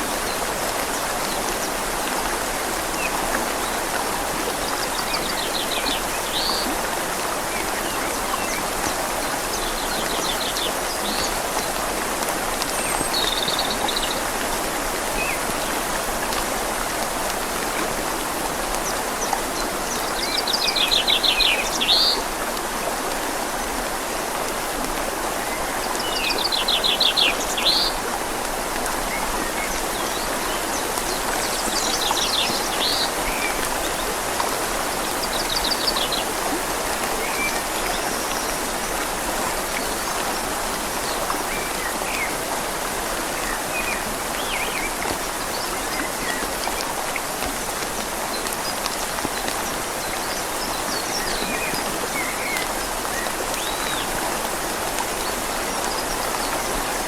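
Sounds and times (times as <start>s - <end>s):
rain falling on leaves: 0.0s - 57.0s
river flowing: 0.0s - 57.0s.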